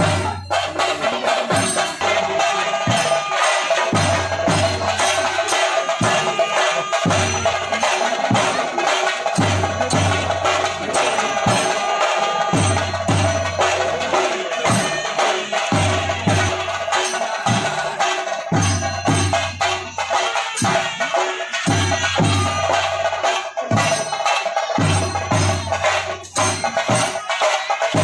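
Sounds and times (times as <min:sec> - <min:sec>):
drums beaten with sticks: 0:00.0 - 0:28.0
hand cymbals shimmering: 0:00.0 - 0:28.0.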